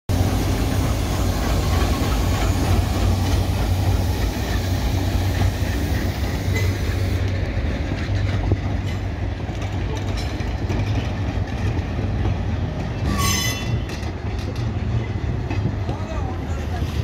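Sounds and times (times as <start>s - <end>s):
diesel locomotive engine drone: 0.1s - 17.0s
train coaches rolling on rails: 0.1s - 17.0s.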